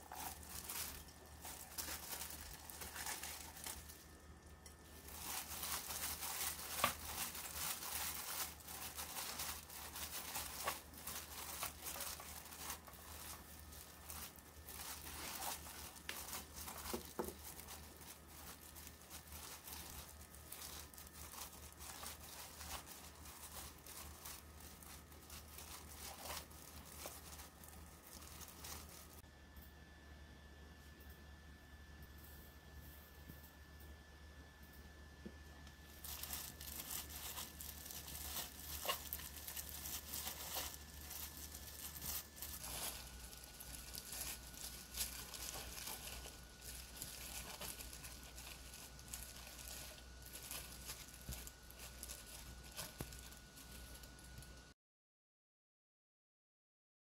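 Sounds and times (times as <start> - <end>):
squid strips rustling: 0.0 - 29.2, 35.9 - 54.6
plastic glove crinkling: 0.0 - 29.3, 35.3 - 54.8.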